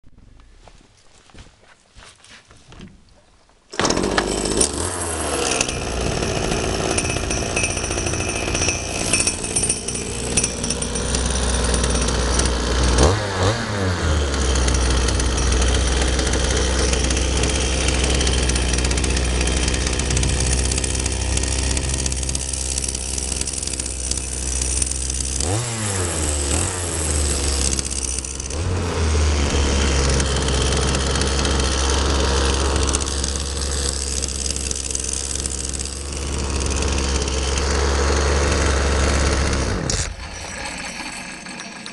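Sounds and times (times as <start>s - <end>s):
chainsaw running: 3.7s - 41.9s.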